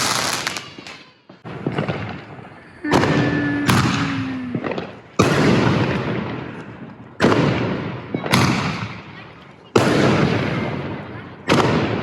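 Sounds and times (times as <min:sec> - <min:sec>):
fireworks bangs with rumble: 0:00.0 - 0:12.0.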